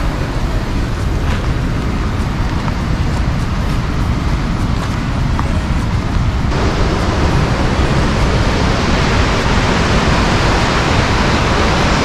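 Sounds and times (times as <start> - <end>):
car driving rumble: 0.0 - 12.0
waterfall rushing: 0.0 - 12.0.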